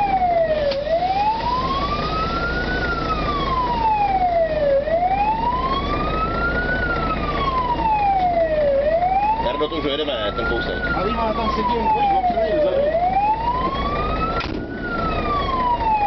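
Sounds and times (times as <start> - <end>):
fire engine siren wailing: 0.0 - 16.0
vehicle rumble: 0.0 - 16.0.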